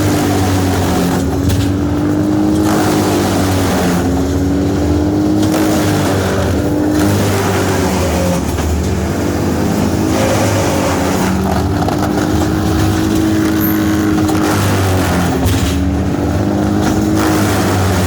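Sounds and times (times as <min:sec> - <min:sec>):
large engine running under load: 0:00.0 - 0:18.0.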